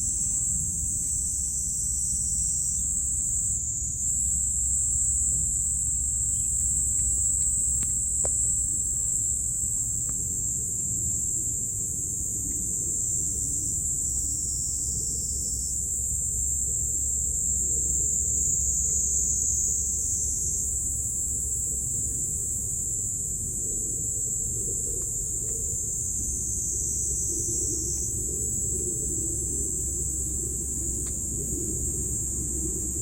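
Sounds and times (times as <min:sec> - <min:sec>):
continuous low rumble: 0:00.0 - 0:33.0
insects chirring: 0:00.0 - 0:33.0.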